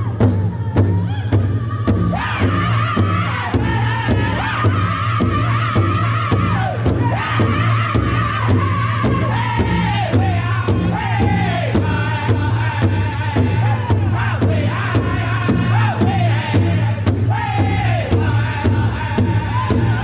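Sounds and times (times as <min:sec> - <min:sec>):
large drum beating: 0:00.0 - 0:20.0
men singing in chorus: 0:01.0 - 0:20.0.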